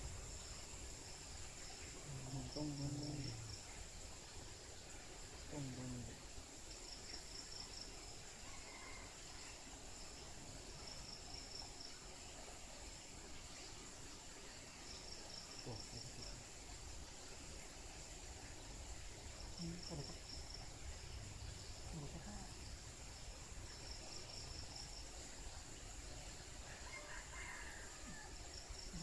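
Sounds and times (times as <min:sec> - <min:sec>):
insect trilling: 0:00.0 - 0:29.0
insects droning: 0:00.0 - 0:29.0.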